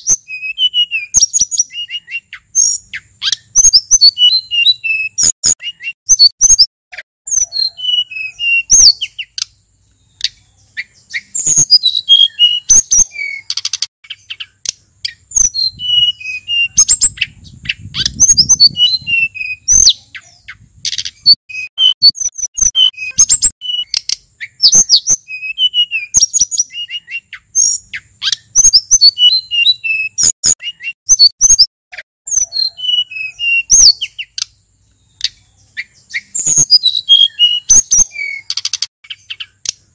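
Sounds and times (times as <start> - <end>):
songbird whistling and chirping: 0.0 - 6.7, 7.3 - 31.7, 32.3 - 39.9.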